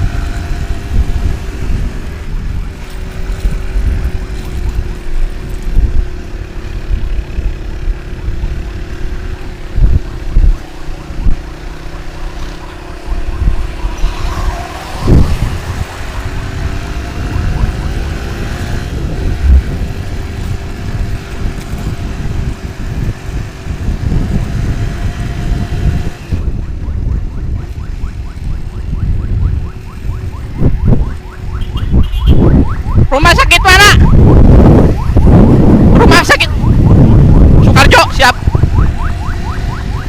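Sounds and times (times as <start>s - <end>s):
motorcycle engine running: 0.0s - 40.0s
wind buffeting microphone: 0.0s - 40.0s.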